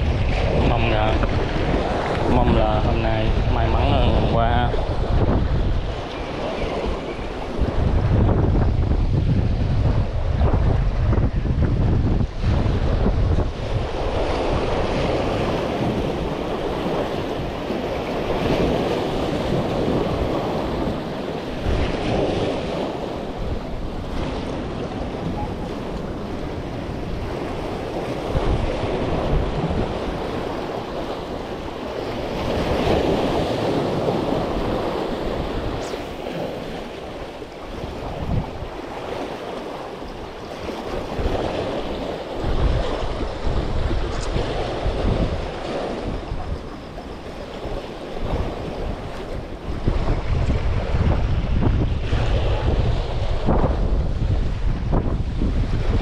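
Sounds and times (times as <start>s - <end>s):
waves washing in: 0.0s - 56.0s
wind buffeting microphone: 0.0s - 56.0s.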